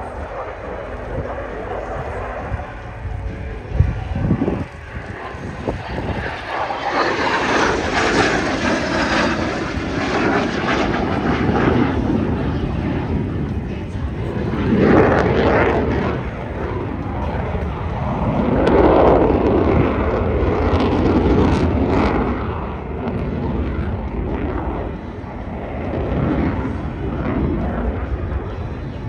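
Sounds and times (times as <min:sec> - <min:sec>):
fighter jet engine rumbling: 0:00.0 - 0:29.0.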